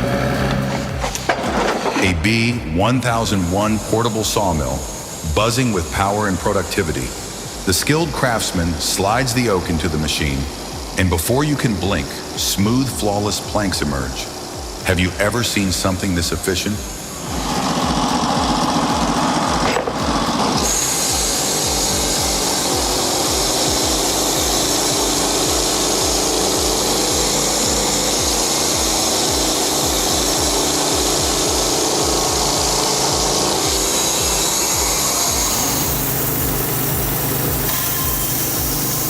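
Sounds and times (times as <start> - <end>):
saw cutting through log: 0.0 - 39.0
sawmill motor running: 0.0 - 39.0.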